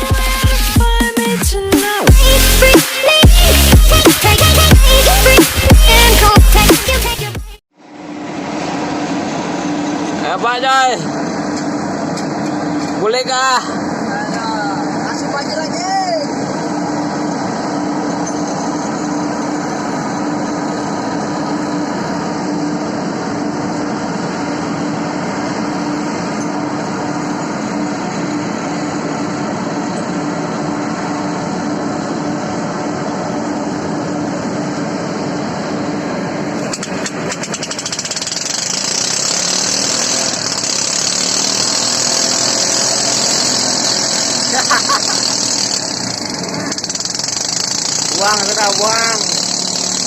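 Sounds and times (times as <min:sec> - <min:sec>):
heavy engine running: 0:01.5 - 0:50.0.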